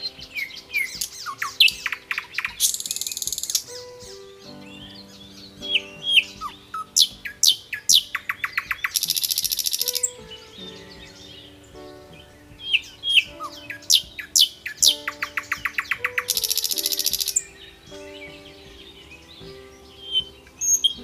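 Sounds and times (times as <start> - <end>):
birdsong chirps and trills: 0.0 - 21.0
soft sustained background music: 0.0 - 21.0.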